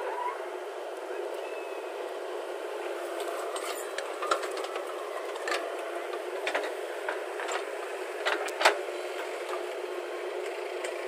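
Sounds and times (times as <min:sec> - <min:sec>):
backhoe engine drone: 0:00.0 - 0:11.0.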